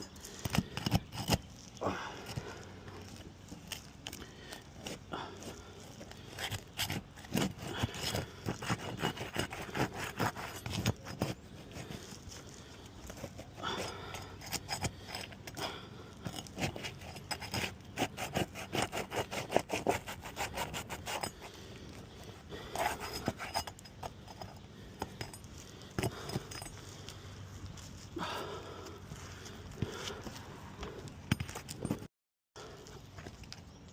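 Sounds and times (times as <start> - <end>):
hand tool scraping roof shingles: 0.0 - 27.2.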